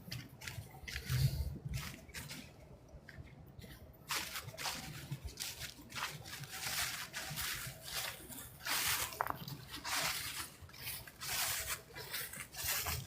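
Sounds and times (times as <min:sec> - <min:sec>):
creek water splashing and trickling: 0:00.1 - 0:13.0.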